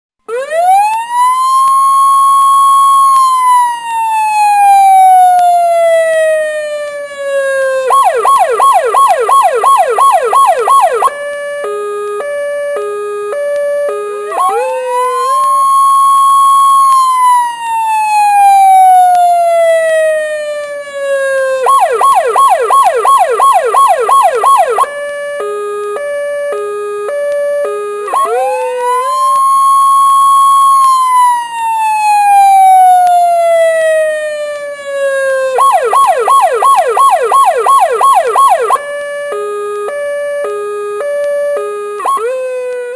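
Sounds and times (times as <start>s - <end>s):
electronic police siren: 0.2s - 42.9s.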